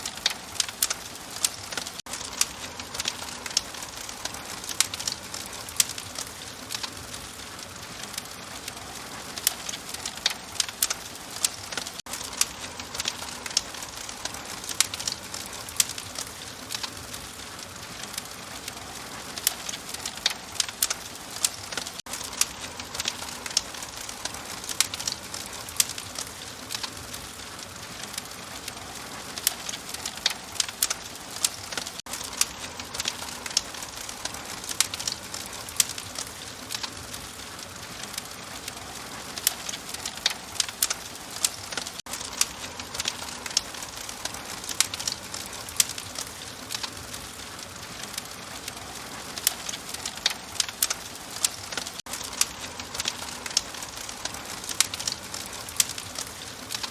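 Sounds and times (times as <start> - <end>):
fire crackling and popping: 0.0 - 56.9
steady hiss: 0.0 - 56.9.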